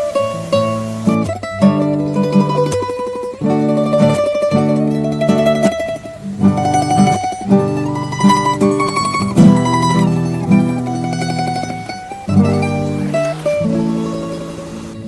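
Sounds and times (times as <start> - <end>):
plucked-string tune: 0.0 - 15.0.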